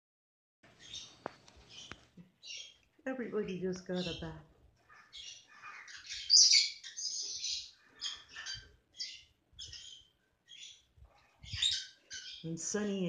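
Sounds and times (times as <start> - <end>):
lovebirds chirping: 0.7 - 13.0.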